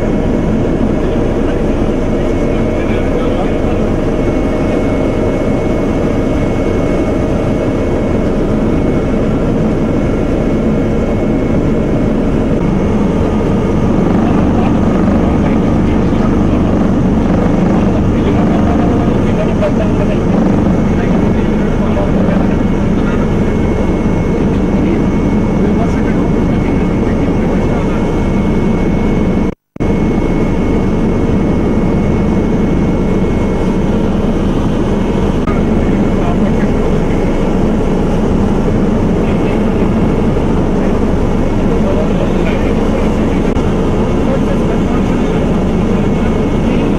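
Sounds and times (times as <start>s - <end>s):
faint high whine: 0.0s - 46.9s
helicopter engine and rotor drone: 0.0s - 46.9s.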